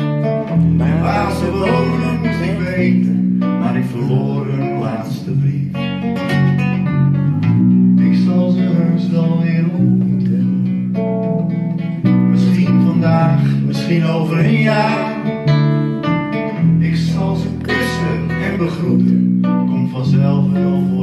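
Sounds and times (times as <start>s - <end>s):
electric bass guitar: 0.0s - 21.0s
strummed acoustic guitar: 0.0s - 21.0s.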